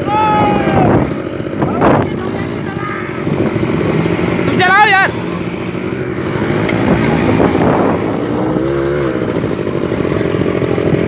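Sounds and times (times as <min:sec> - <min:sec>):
quad bike engines revving: 0:00.0 - 0:11.0.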